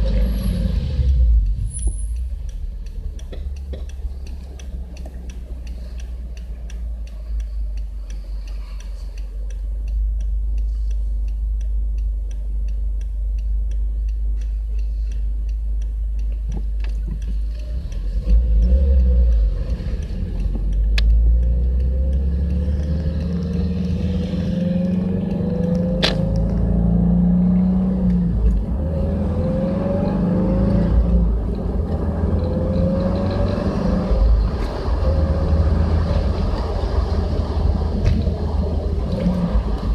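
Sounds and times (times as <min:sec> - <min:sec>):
car engine and exhaust rumble: 0:00.0 - 0:39.9.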